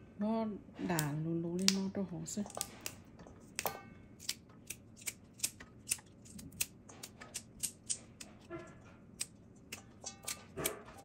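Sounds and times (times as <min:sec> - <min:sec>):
beans snapping by hand: 0:00.9 - 0:08.5, 0:09.2 - 0:10.9.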